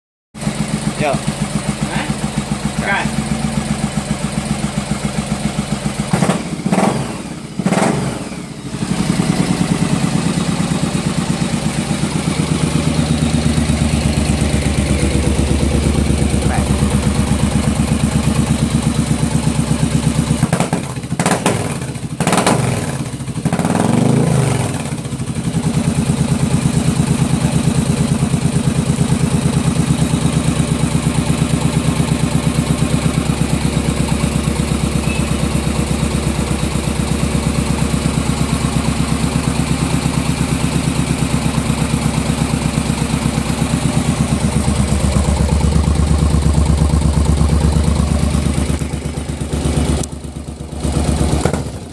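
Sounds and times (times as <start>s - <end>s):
motorcycle engine idling and revving: 0.4s - 51.9s.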